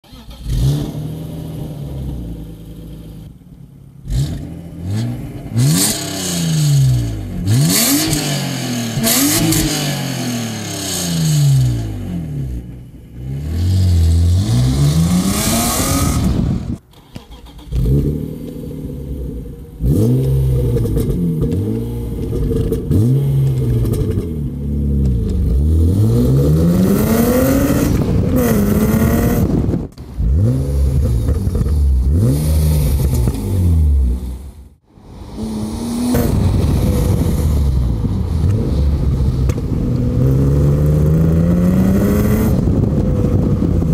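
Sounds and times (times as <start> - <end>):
car engine revving through exhaust: 0.2 - 16.8, 17.7 - 43.9.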